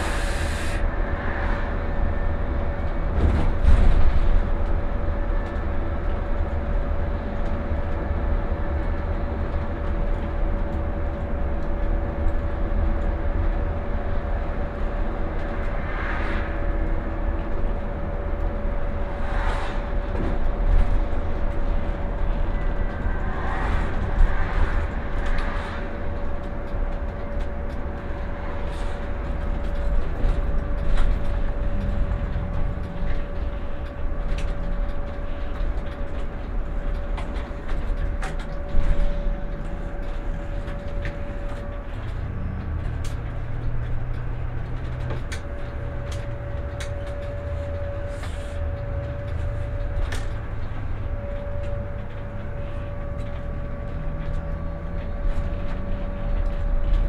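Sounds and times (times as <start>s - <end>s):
bus drivetrain and road rumble: 0.0s - 57.0s
steady electric whine: 10.0s - 57.0s.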